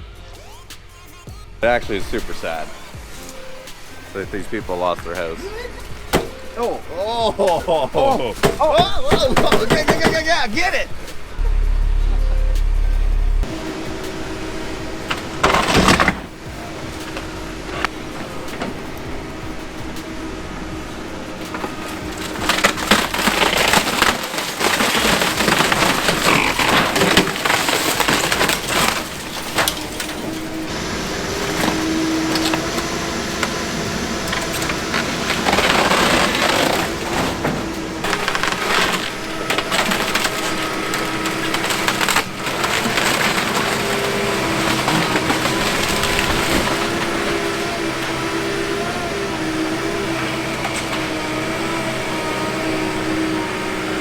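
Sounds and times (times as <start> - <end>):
wood splintering and cracking: 0.0 - 12.0, 12.6 - 54.0
excavator engine running: 0.0 - 54.0.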